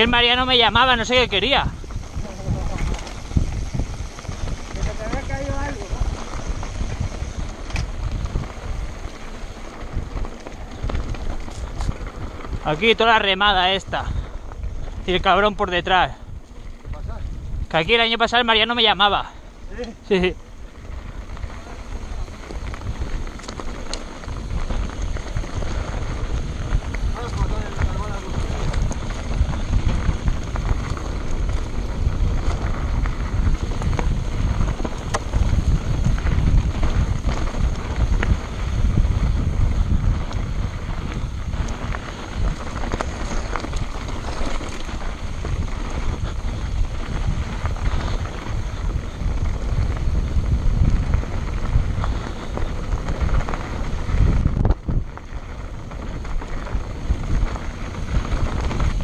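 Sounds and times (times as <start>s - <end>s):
tyres crunching over stones: 0.0s - 18.7s, 19.3s - 59.0s
bike clattering: 0.0s - 59.0s
wind buffeting microphone: 0.0s - 59.0s.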